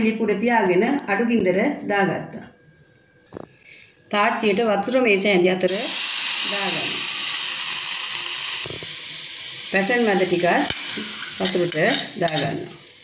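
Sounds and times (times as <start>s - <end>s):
saucepan hissing and sizzling: 2.6s - 13.0s.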